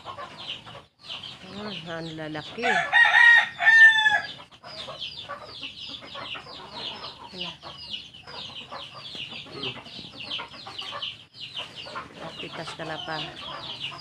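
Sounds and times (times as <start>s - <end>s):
chickens chirping and clucking: 0.0s - 14.0s.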